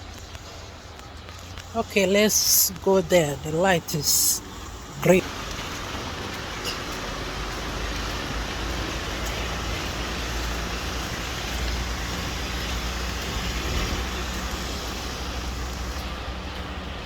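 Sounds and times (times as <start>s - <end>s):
traffic on wet street: 0.0s - 17.0s.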